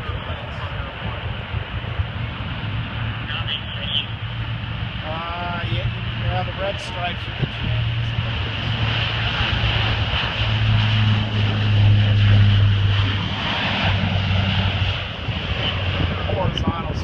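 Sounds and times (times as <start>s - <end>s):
propeller plane drone: 0.0s - 17.0s.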